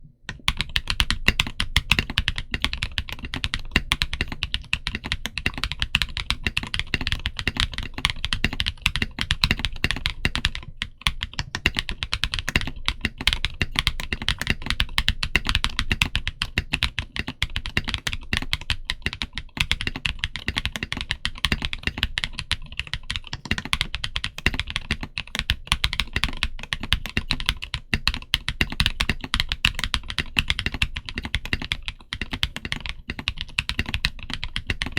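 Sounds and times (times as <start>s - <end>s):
mechanical keyboard typing: 0.3s - 34.9s.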